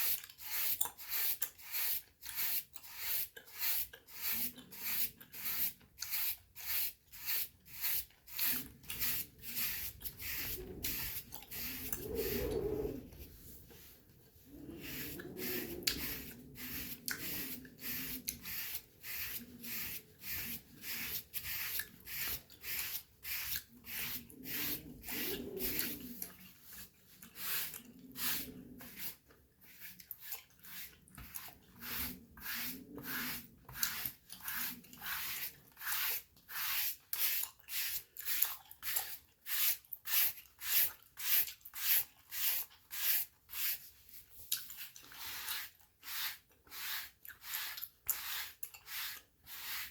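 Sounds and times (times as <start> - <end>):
brush bristles stroking skin: 0.0 - 49.9.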